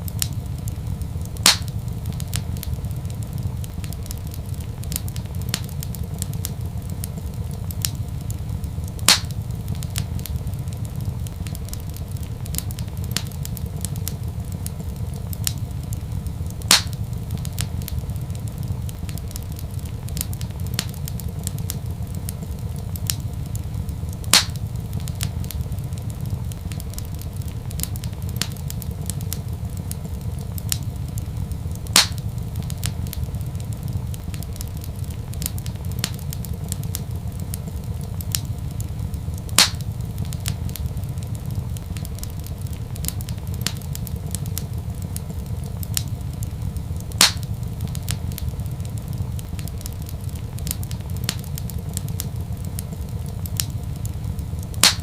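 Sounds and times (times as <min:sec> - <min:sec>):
fire popping: 0:00.0 - 0:55.0
fireplace fire crackling: 0:00.0 - 0:55.0
steady low rumble: 0:00.0 - 0:55.0.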